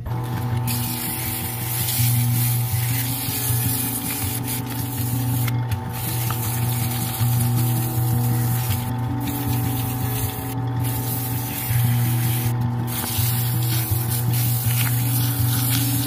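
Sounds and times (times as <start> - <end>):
lathe motor hum: 0.0 - 16.0
sandpaper hissing on wood: 0.7 - 16.0.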